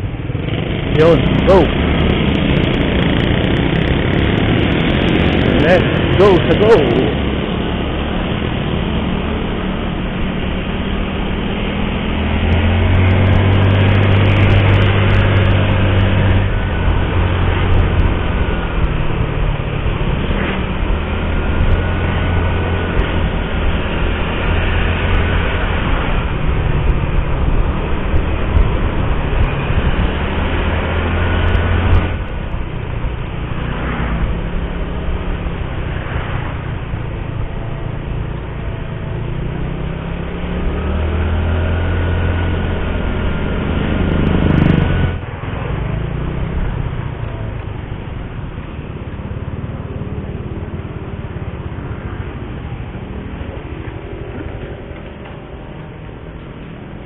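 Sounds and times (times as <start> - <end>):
wind noise on microphone: 0.0 - 49.4
scooter engine running: 0.0 - 57.0
traffic: 0.0 - 57.0.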